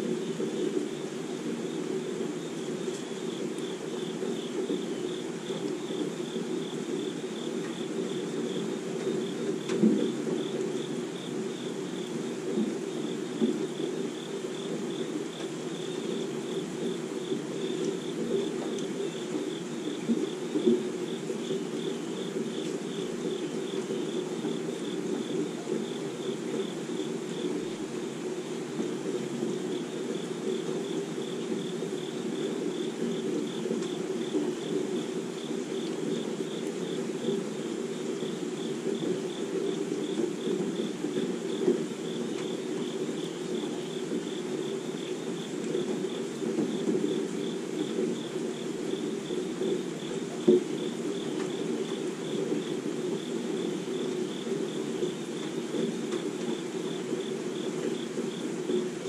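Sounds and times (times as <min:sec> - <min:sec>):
insects chirping: 0:00.0 - 0:59.0
rain falling on leaves: 0:00.1 - 0:59.0.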